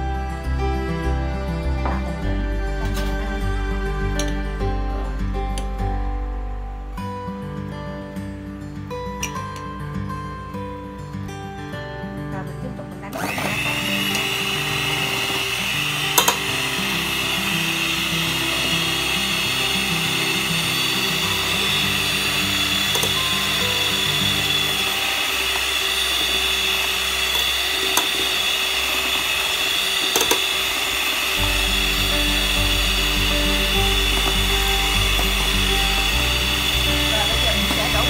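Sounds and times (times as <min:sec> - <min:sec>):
electric hand mixer whining: 0:00.0 - 0:05.8, 0:13.1 - 0:38.0
background music: 0:00.0 - 0:38.0.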